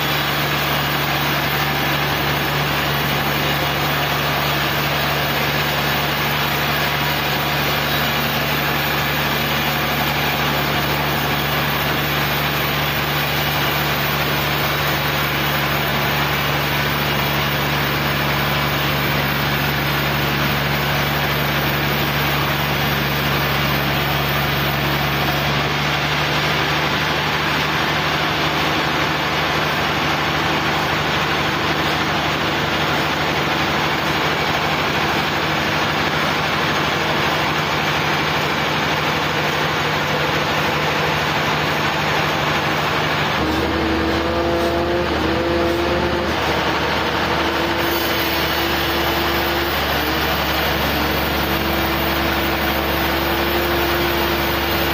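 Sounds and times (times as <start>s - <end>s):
sawmill engine and saw running: 0.0s - 54.9s.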